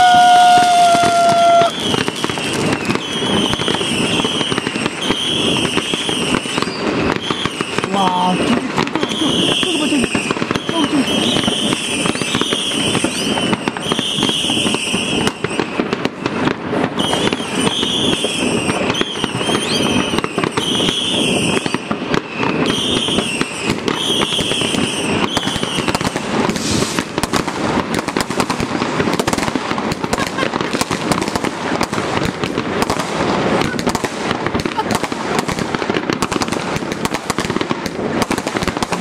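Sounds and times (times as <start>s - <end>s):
firecracker cracks and bangs: 0.0s - 39.0s
fireworks rocket bursts: 0.0s - 39.0s.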